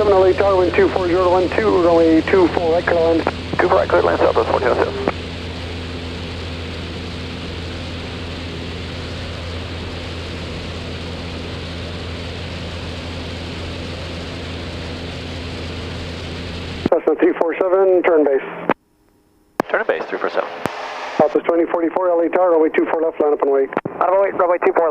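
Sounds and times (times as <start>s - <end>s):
light aircraft engine drone: 0.0s - 18.8s, 19.6s - 24.9s.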